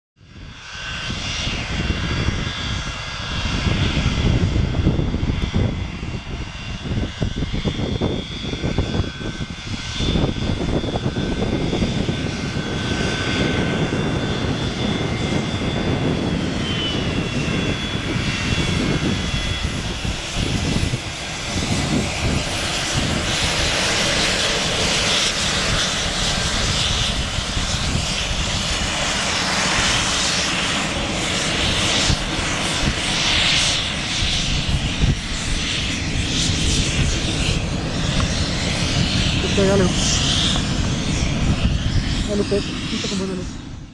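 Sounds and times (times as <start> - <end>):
jet engines whining: 0.3 - 43.9.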